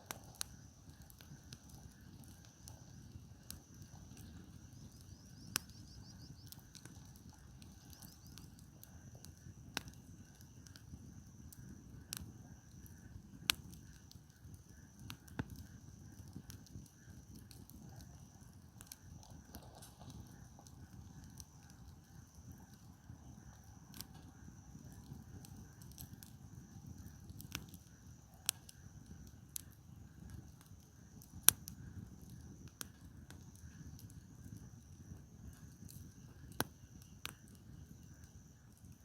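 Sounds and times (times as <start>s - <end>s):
campfire crackling and popping: 0.0s - 39.0s
low steady fire rumble: 0.0s - 39.0s.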